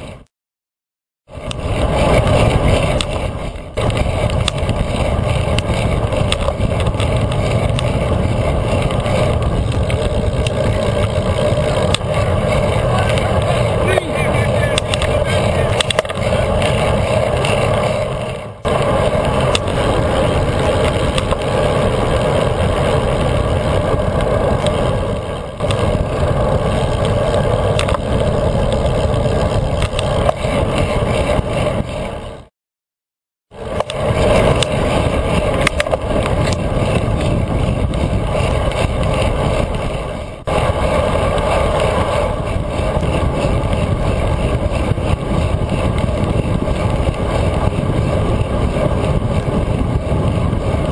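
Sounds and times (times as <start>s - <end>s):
wind and road rush: 0.0s - 0.3s, 1.2s - 32.5s, 33.5s - 50.9s.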